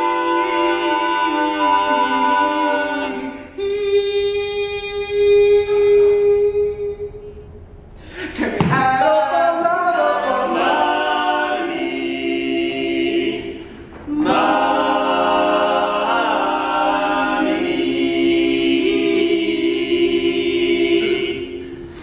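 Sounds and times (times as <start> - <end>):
male quartet singing a cappella: 0.0 - 7.4, 8.2 - 22.0.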